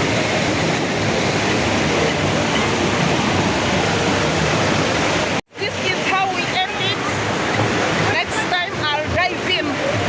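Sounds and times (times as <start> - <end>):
rapids rushing water: 0.0 - 10.0.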